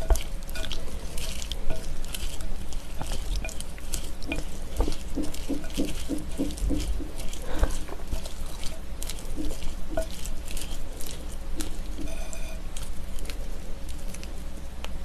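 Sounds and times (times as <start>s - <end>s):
chopsticks stirring wet food: 0.0s - 15.0s.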